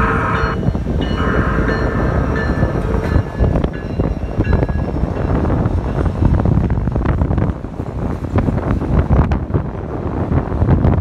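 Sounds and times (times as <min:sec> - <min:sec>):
freight train rumbling: 0:00.0 - 0:11.0.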